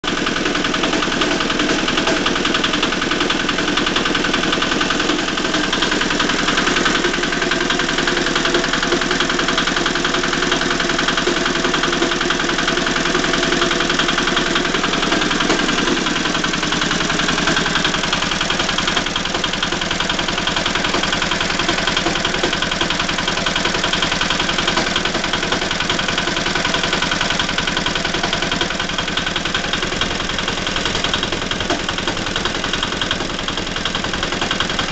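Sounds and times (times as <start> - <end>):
engine knocking: 0.0 - 34.9
tractor engine running: 0.0 - 34.9.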